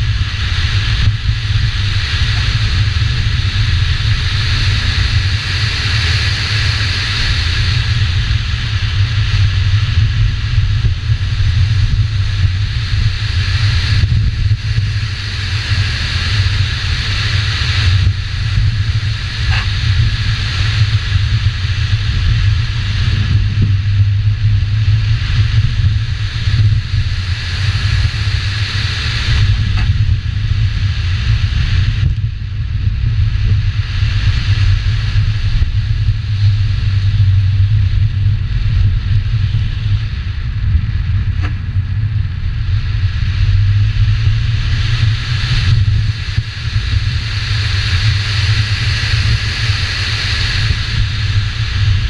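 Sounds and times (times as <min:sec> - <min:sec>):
car engine running hard: 0:00.0 - 0:52.0
wind buffeting microphone: 0:00.0 - 0:52.0.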